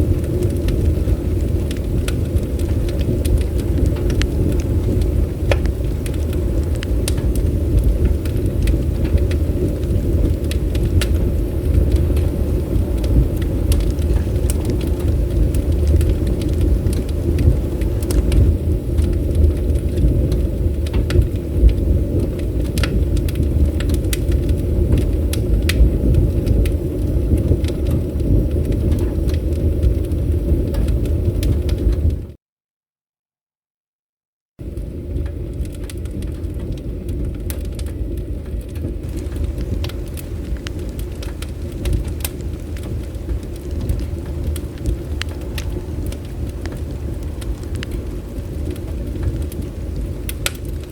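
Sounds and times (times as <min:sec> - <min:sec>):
burning wood crackling and popping: 0:00.0 - 0:32.3, 0:34.6 - 0:50.9
fire low rumble: 0:00.0 - 0:32.4, 0:34.6 - 0:50.9.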